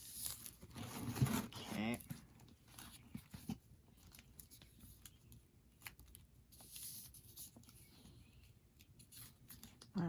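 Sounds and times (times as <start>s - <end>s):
paper rustling: 0.0s - 9.9s.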